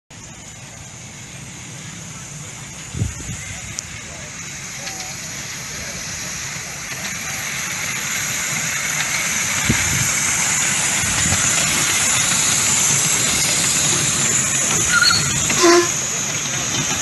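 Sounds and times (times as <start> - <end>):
wheels rumbling on track: 0.1 - 17.0
steam locomotive hiss: 0.2 - 17.0.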